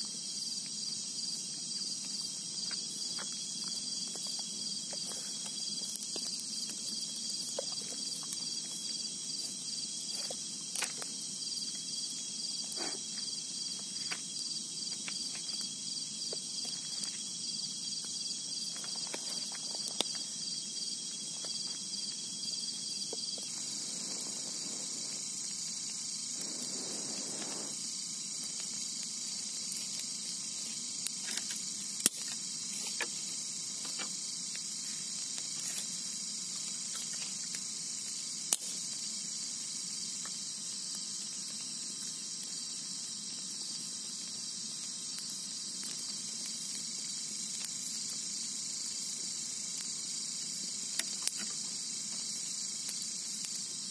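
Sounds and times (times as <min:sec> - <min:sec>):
crickets and insects chirping: 0:00.0 - 0:53.9.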